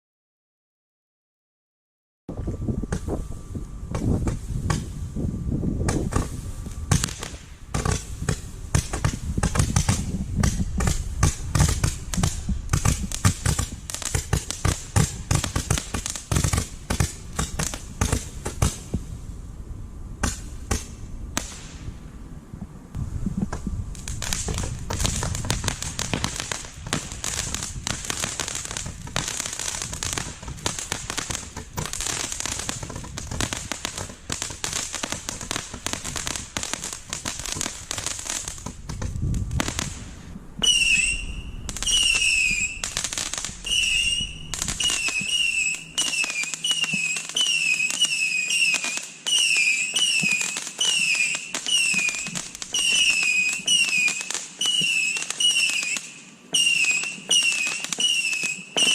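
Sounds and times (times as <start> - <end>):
falling firework whistles: 2.5 - 19.3, 23.0 - 58.9
firework bangs and crackles: 3.9 - 5.2, 5.8 - 58.9.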